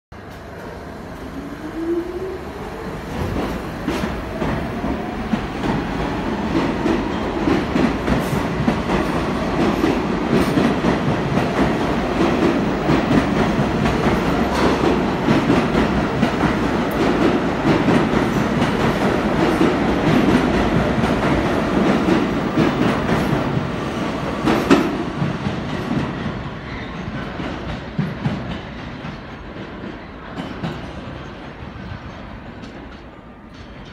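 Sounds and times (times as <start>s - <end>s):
train cars rumbling: 0.2s - 33.9s.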